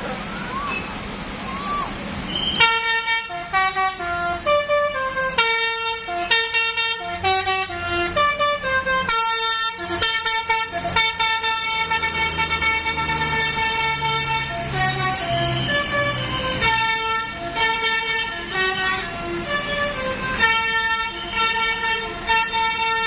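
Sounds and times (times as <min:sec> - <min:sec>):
bus horn playing a tune: 0:02.4 - 0:23.0.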